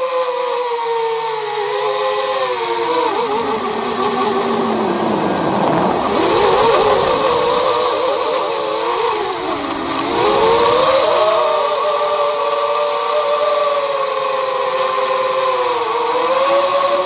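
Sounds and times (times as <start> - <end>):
drone motor whine: 0.0 - 17.0.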